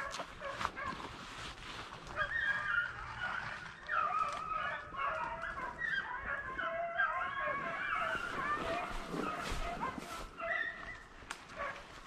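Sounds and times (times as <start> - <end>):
hounds baying: 0.0 - 1.1, 2.0 - 12.0.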